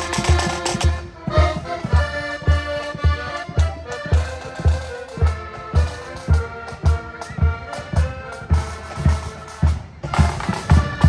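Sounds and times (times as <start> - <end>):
accordion band playing: 0.0 - 11.0.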